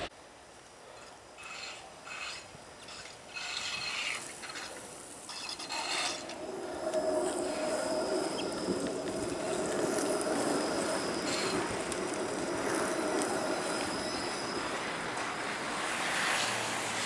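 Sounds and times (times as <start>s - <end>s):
streetcar wheels on rail: 0.8s - 17.0s
thin high wheel squeal: 0.9s - 16.7s.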